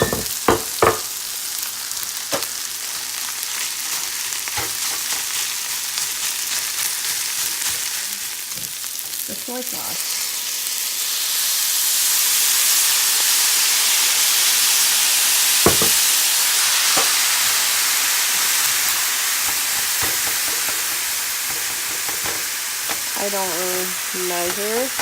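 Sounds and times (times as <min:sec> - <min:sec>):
rice sizzling in a hot pan: 0:00.0 - 0:25.0.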